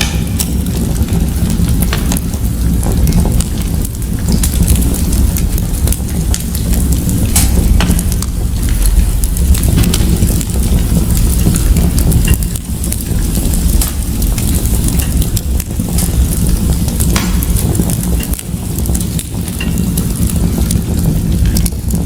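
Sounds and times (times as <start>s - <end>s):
fire crackling in a fireplace: 0.0s - 22.0s
sharp pops of fire: 0.0s - 22.0s.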